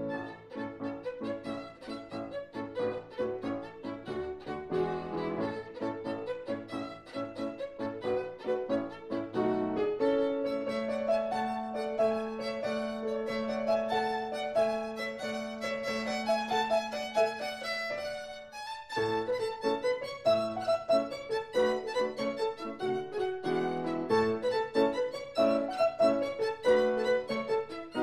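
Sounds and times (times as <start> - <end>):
violin-led film music: 0.0 - 28.0.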